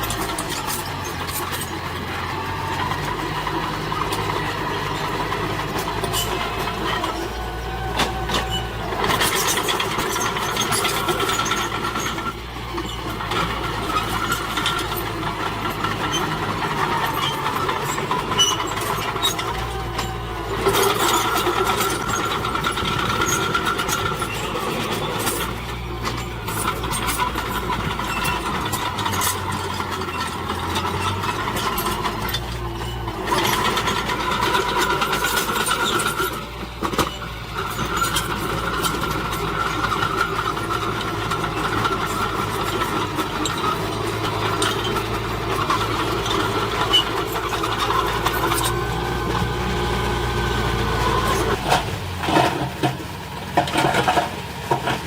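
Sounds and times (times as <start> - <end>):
clanks and rattles: 0.0 - 55.0
heavy machinery engine drone: 0.0 - 55.0.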